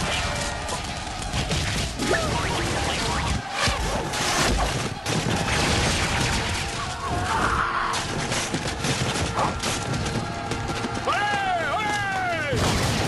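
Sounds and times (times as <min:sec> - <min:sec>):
rapid blows and crashes: 0:00.0 - 0:13.0.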